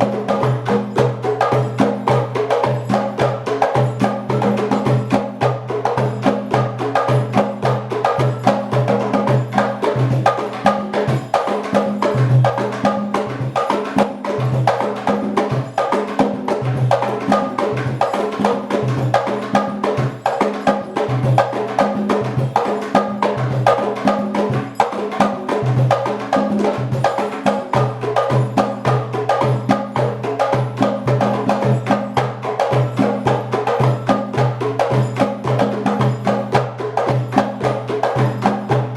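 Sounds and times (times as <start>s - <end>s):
percussion ensemble playing: 0.0s - 38.9s.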